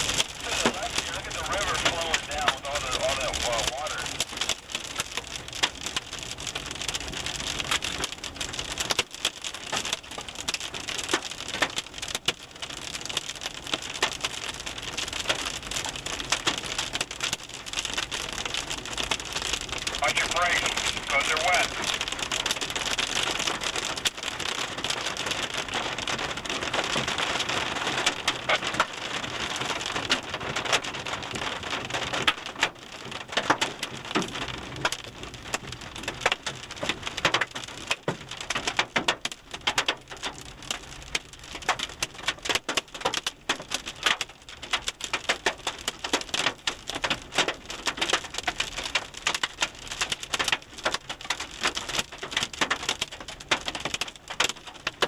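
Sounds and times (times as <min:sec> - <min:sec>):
hail and rain on car roof: 0:00.0 - 0:55.0.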